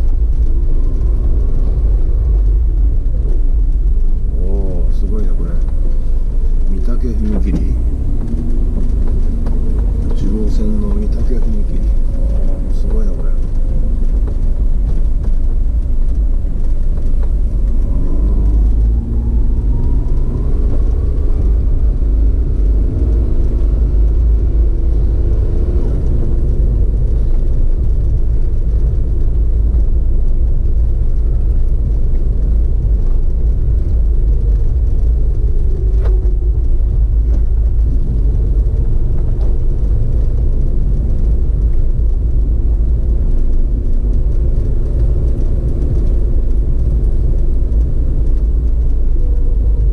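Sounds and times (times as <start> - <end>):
road and wind rumble: 0.0 - 49.9
vehicle engine accelerating: 0.0 - 49.9.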